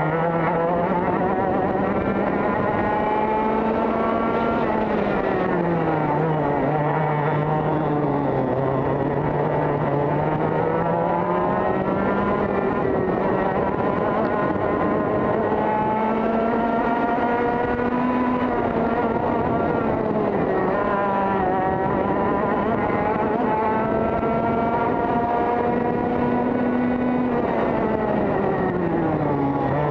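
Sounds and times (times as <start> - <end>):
kart engine revving: 0.0 - 29.9.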